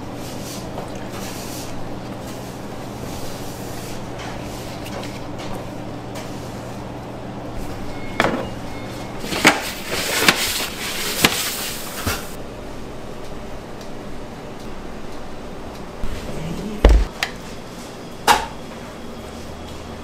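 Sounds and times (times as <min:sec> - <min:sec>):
low hum of equipment: 0:00.0 - 0:20.0.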